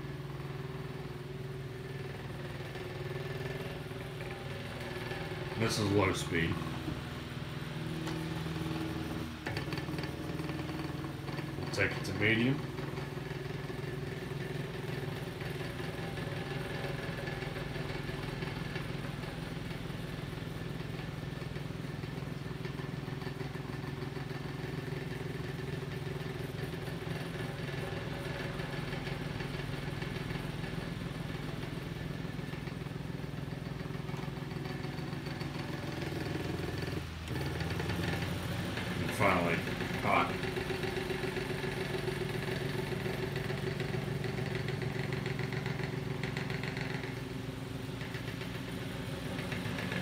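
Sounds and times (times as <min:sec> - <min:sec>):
table fan motor humming: 0:00.0 - 0:50.0.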